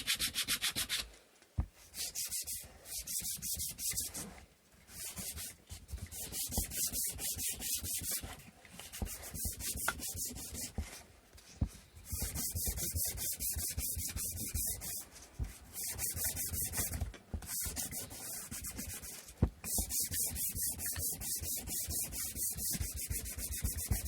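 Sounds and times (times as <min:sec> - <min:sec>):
sandpaper rubbing on wood: 0:00.0 - 0:01.1, 0:02.0 - 0:04.3, 0:04.9 - 0:08.3, 0:08.9 - 0:10.8, 0:12.1 - 0:15.1, 0:15.7 - 0:24.0.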